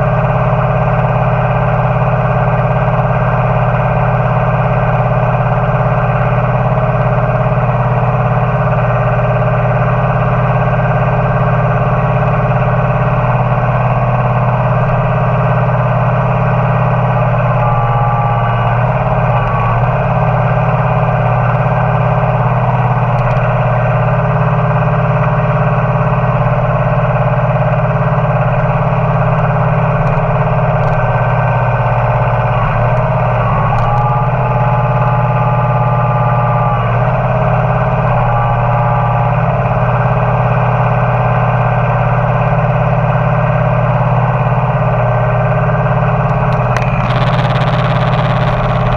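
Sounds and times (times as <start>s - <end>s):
hydraulic whine: 0.0s - 48.9s
tractor engine: 0.0s - 48.9s.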